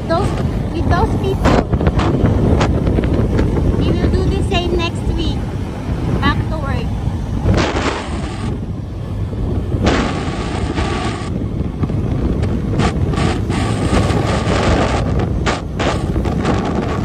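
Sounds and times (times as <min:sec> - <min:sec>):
engine and road rumble: 0:00.0 - 0:17.0
wind buffeting microphone: 0:00.0 - 0:17.0.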